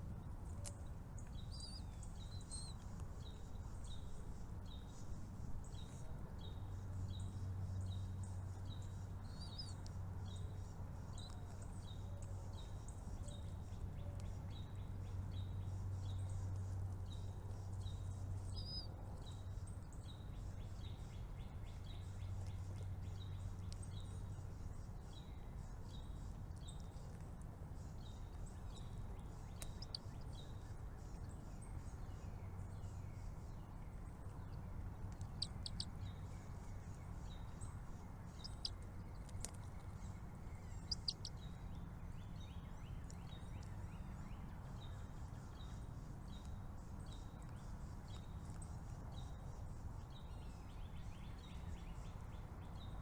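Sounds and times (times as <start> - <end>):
steady low hum: 0.0 - 53.0
small bird chirping: 0.6 - 53.0.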